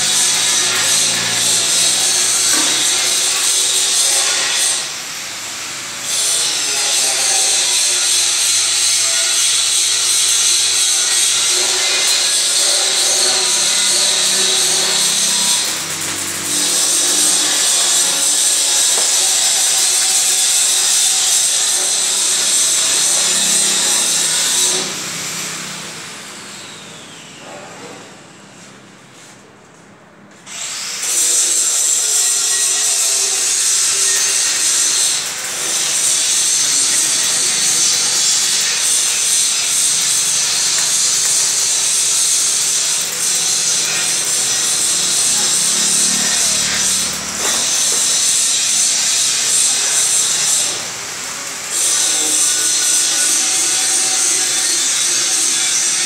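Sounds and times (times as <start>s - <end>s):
power tool hissing: 0.0s - 27.6s, 30.5s - 56.0s.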